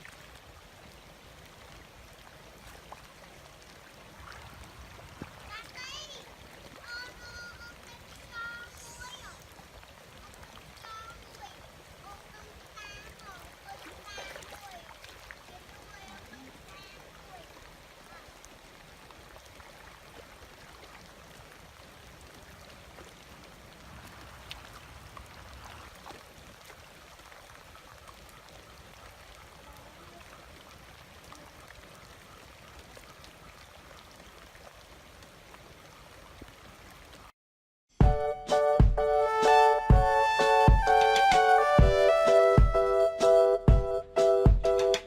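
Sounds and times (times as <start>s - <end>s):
water trickling and splashing: 0.0s - 37.3s.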